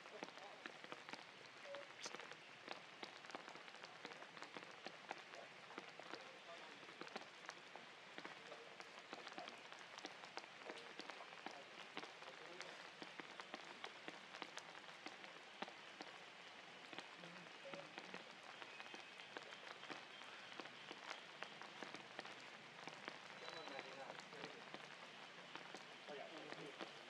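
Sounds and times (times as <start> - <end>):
rain drops ticking on surfaces: 0.0 - 27.0.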